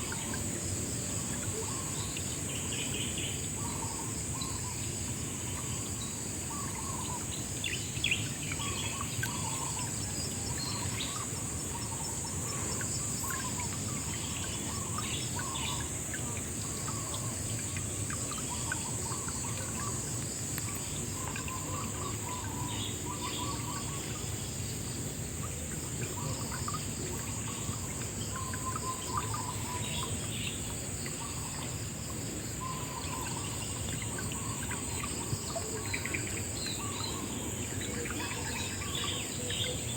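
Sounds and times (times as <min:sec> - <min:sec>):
high-pitched insect chorus: 0:00.0 - 0:39.9
low rush of water: 0:00.0 - 0:39.9.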